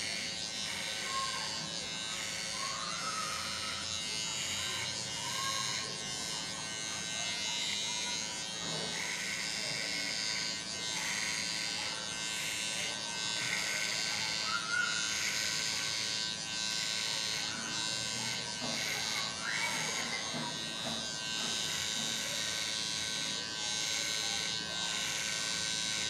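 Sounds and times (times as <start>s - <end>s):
electric hair trimmer buzzing: 0.0s - 26.0s.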